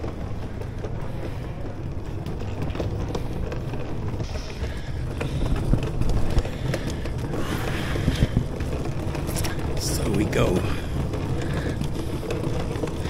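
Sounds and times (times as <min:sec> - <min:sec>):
footsteps on tiled floor: 0:00.0 - 0:13.0
low station rumble: 0:00.0 - 0:13.0.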